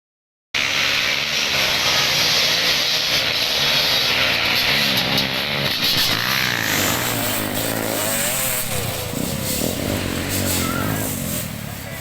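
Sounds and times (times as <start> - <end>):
dirt bike engines revving: 0.6 - 12.0.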